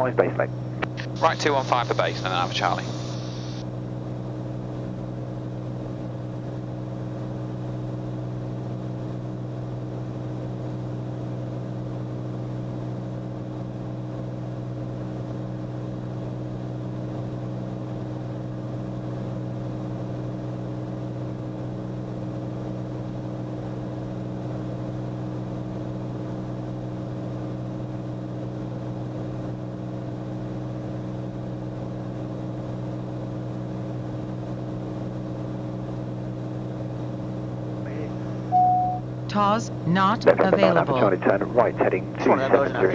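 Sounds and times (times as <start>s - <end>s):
aircraft engine and propeller drone: 0.0s - 42.9s.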